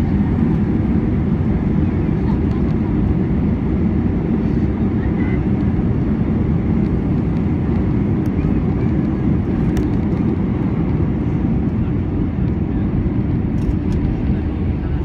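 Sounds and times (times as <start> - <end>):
low rumble of plane cabin: 0.0 - 15.0.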